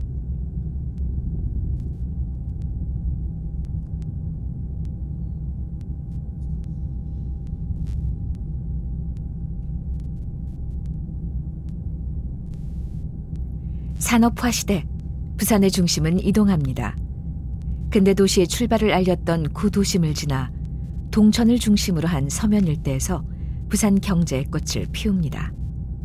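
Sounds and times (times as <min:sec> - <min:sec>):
faint whine: 0:00.0 - 0:26.0.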